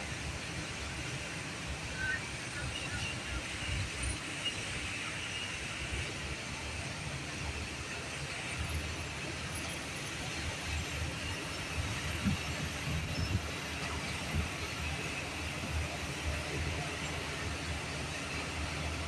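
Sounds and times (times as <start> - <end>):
bulldozer diesel engine rumbling: 0.0 - 19.0.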